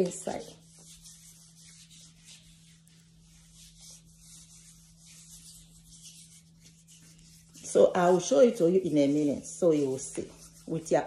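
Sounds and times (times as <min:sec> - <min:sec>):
hands rubbing skin: 0:00.0 - 0:11.0
steady low hum: 0:00.0 - 0:11.0.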